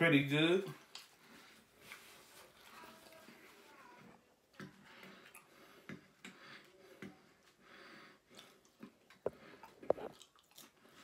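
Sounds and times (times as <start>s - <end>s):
chewing and breathing: 0.7s - 11.0s.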